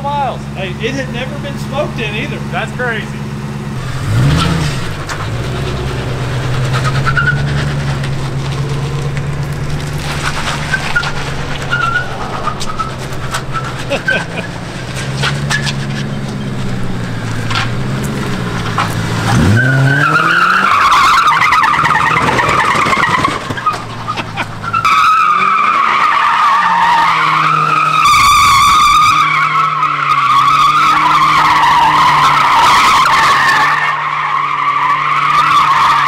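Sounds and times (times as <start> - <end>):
car engine revving: 0.0 - 36.0
tyres squealing: 0.0 - 36.0.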